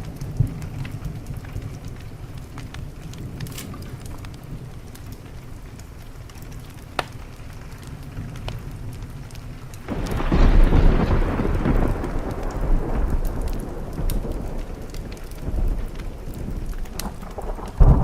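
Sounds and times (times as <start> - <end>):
steady rain: 0.0 - 18.0
thunder clap and rumble: 0.0 - 18.0
wood fire crackling and popping: 0.0 - 18.0.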